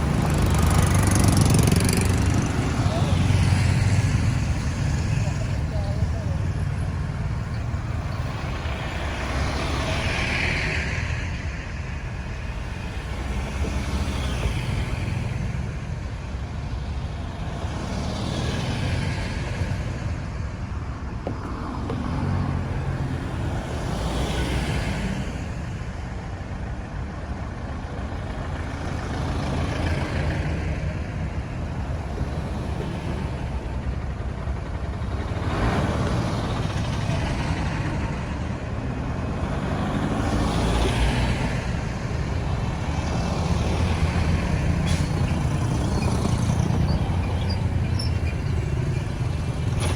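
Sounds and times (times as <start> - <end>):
road traffic rumble: 0.0 - 49.9
vehicles passing: 0.0 - 49.9.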